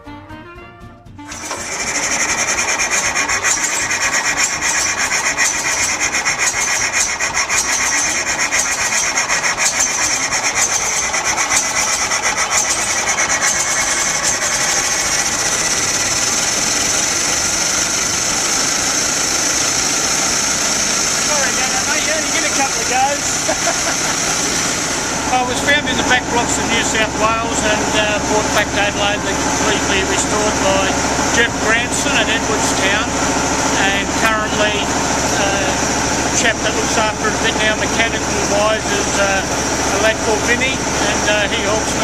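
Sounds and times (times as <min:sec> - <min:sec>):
truck engine rasping clatter: 0:00.0 - 0:42.0.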